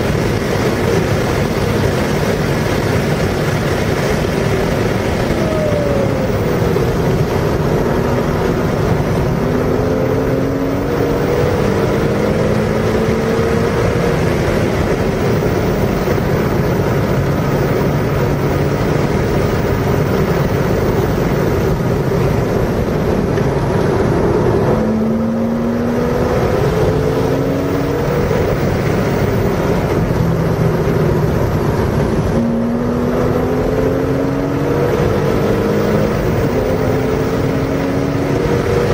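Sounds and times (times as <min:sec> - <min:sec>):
car engine accelerating: 0:00.0 - 0:38.9
wind and road noise: 0:00.0 - 0:38.9.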